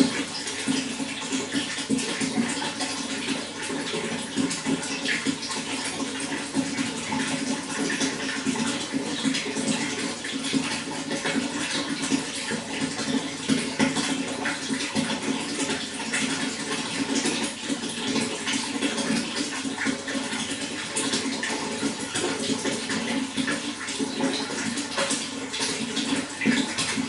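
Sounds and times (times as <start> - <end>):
running water flowing: 0.0 - 27.0.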